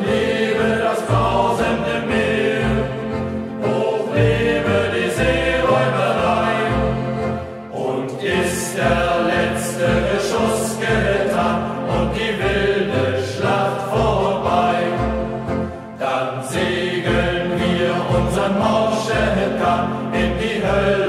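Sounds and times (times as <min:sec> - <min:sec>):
youth choir singing in unison: 0:00.0 - 0:21.0.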